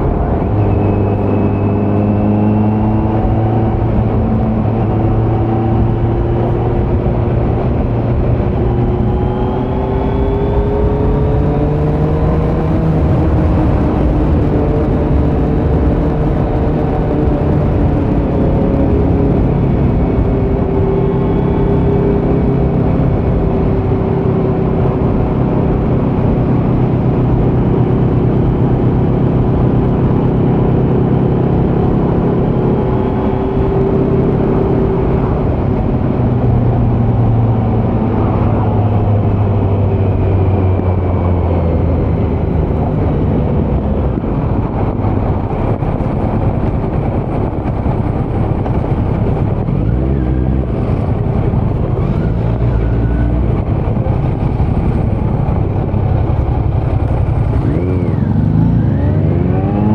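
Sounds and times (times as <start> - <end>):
motorcycle exhaust while riding: 0.0 - 59.9.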